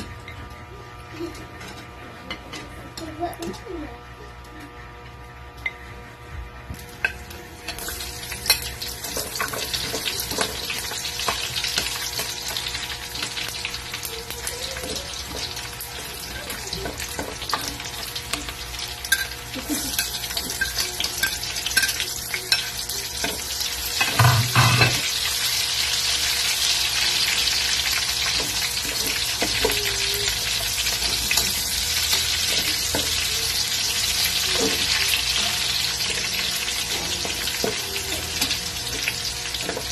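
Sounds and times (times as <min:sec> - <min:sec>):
onion sizzling in oil: 0:07.1 - 0:39.9.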